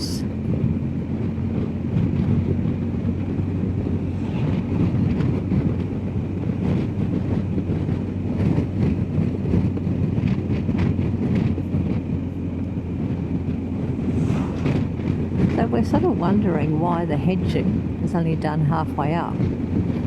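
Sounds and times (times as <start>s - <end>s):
motorcycle engine hum: 0.0s - 20.0s
wind rushing over microphone: 0.0s - 20.0s.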